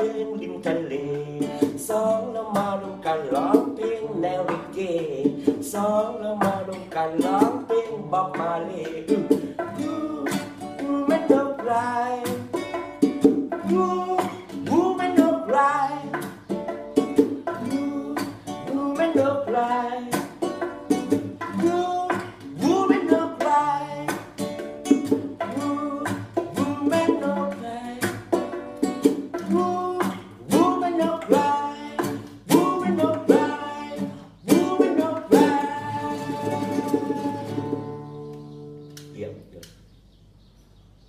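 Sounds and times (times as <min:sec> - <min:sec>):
man singing: 0:00.0 - 0:12.8, 0:13.5 - 0:16.3, 0:17.5 - 0:20.5, 0:21.4 - 0:28.4, 0:29.4 - 0:38.2
bongo drums: 0:00.0 - 0:38.6
strummed acoustic guitar: 0:00.0 - 0:39.2.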